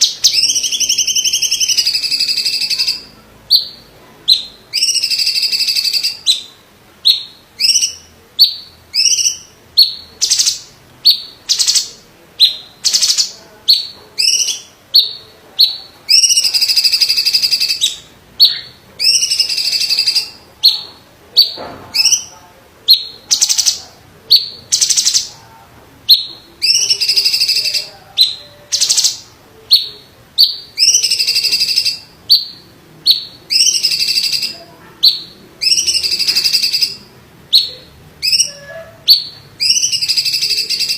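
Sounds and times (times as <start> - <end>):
leafbird singing: 0.0 - 25.5, 26.1 - 40.9.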